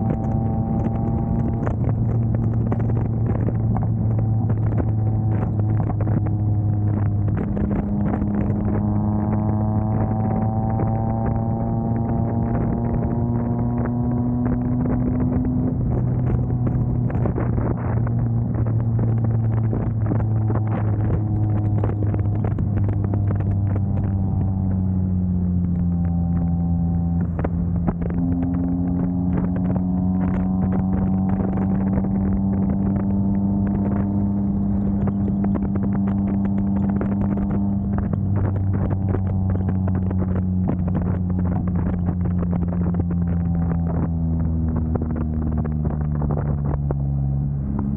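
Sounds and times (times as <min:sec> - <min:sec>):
car engine running while driving: 0:00.0 - 0:47.9.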